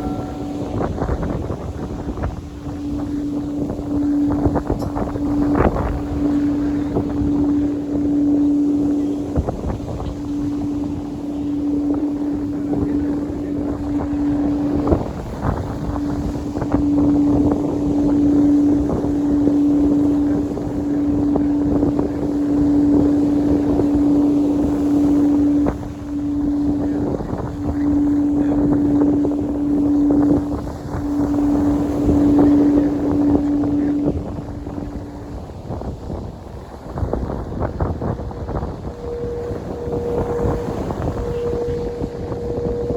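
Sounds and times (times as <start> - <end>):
sea waves washing: 0.0 - 42.9
steady pitched tone: 0.0 - 42.9
wind buffeting microphone: 0.0 - 42.9.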